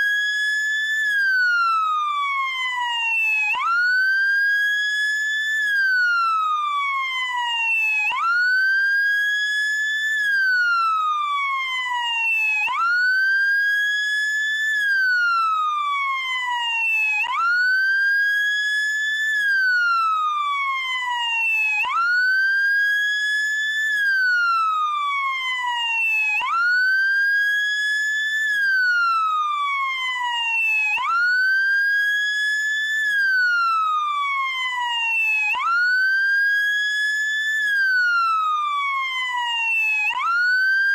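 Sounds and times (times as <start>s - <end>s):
electronic wail siren: 0.0s - 40.9s.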